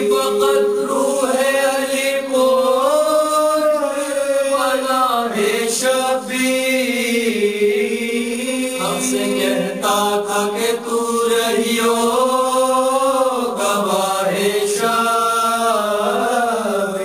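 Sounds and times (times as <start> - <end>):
voices chanting lament: 0.0 - 17.0.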